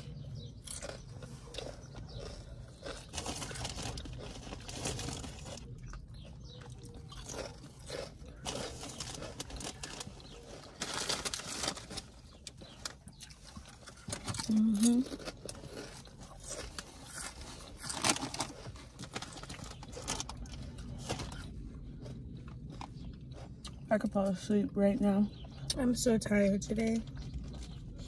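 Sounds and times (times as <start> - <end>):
crunching potato chips: 0.0 - 23.9
sandwich being bitten and chewed: 0.0 - 23.9.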